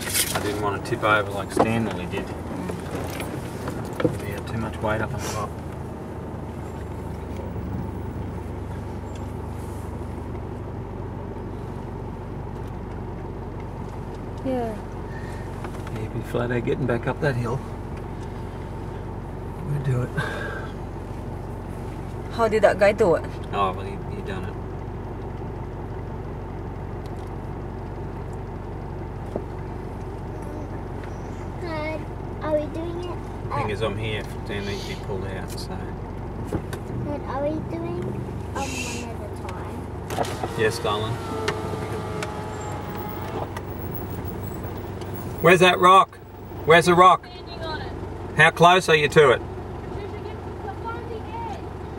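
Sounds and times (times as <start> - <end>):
vehicle engine idling: 0.0 - 51.9.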